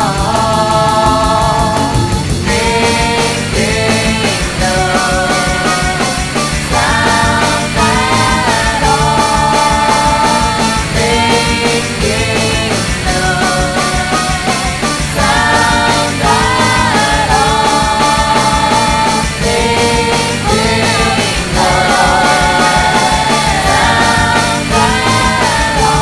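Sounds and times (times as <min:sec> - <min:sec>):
bass: 0:00.0 - 0:26.0
drum beat: 0:00.0 - 0:26.0
sustained lead melody: 0:00.0 - 0:26.0.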